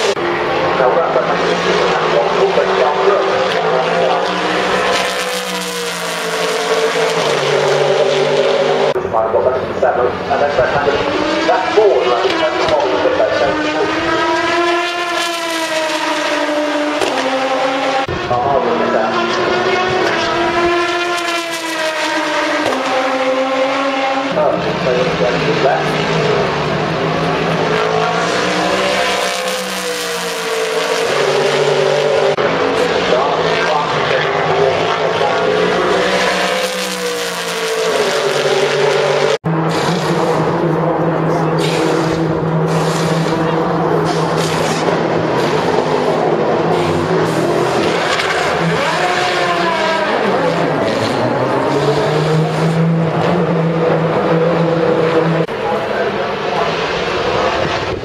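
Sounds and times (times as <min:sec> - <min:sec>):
racing car engine passing: 0:00.0 - 0:58.0.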